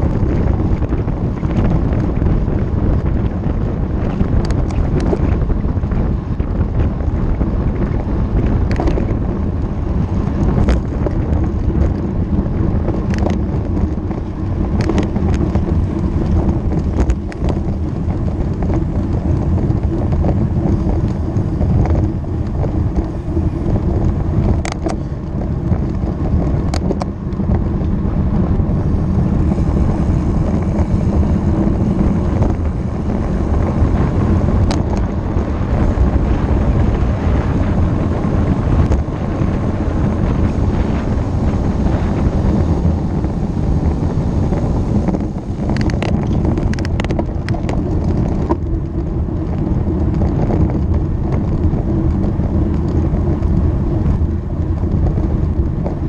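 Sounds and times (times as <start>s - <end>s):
low road noise rumble: 0.0s - 56.0s
wind buffeting microphone: 0.0s - 56.0s.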